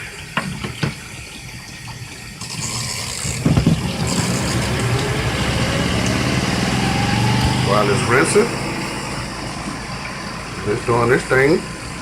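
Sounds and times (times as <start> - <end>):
water running into tub: 0.0 - 12.0
washing machine motor whine: 1.1 - 12.0.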